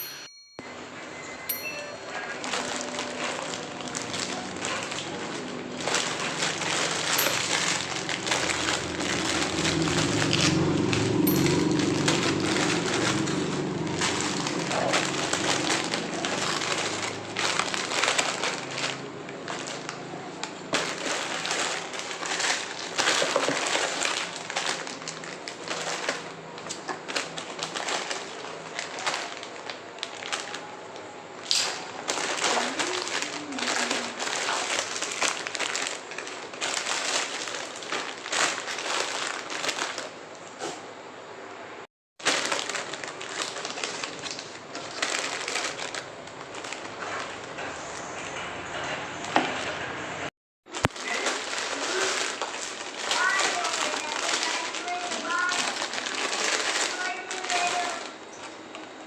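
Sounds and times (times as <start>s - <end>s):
packaging crinkling: 1.6s - 40.4s, 42.2s - 48.0s, 50.7s - 59.0s.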